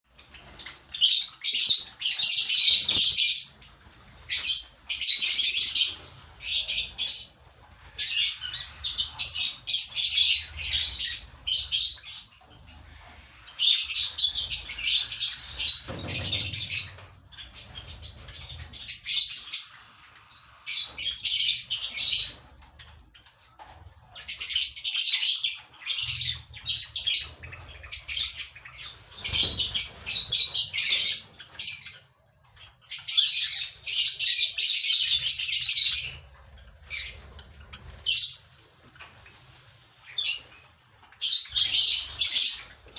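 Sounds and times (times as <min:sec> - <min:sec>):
lovebirds chattering and screeching: 0:00.1 - 0:42.9.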